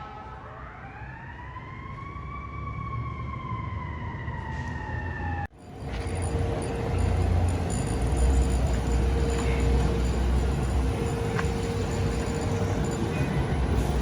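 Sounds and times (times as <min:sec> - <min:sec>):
fire truck siren wail: 0:00.0 - 0:14.0.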